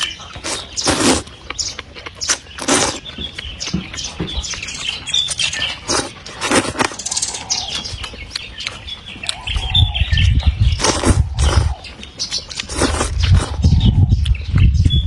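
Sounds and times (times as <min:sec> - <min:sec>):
person chewing and slurping: 0:00.0 - 0:03.5, 0:04.6 - 0:09.5, 0:10.7 - 0:14.4.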